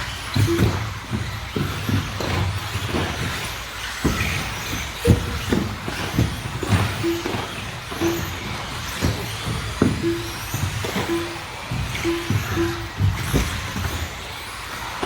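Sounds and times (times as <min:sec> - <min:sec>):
electric motors and tyres: 0:00.0 - 0:15.0
rc cars knocking and thumping: 0:00.0 - 0:15.0.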